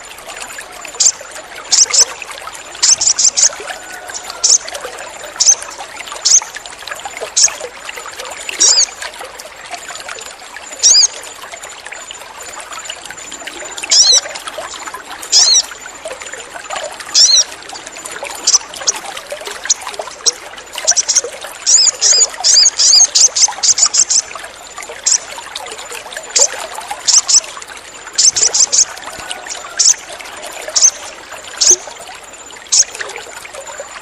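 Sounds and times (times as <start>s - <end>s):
water trickling: 0.0s - 34.0s.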